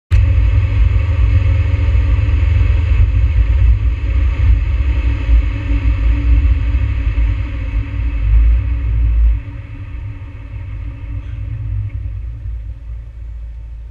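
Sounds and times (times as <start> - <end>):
engine and road rumble: 0.1 - 13.9.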